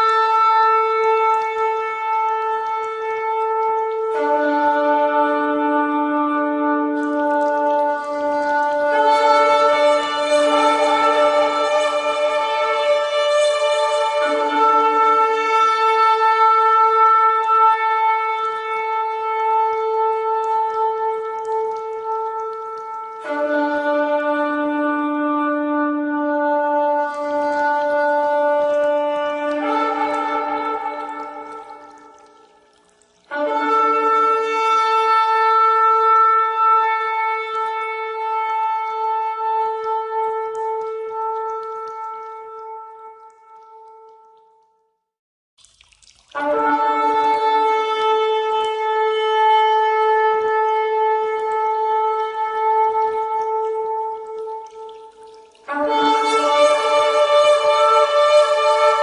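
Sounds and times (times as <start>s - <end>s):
shofar long steady note: 0.0s - 44.5s, 46.4s - 59.0s.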